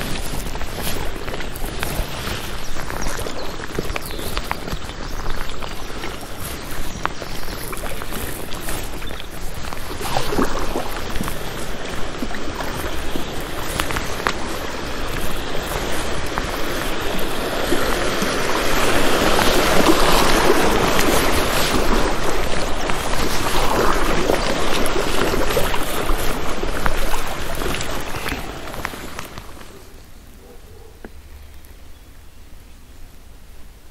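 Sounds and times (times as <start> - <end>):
river water rushing and splashing: 0.0 - 30.3.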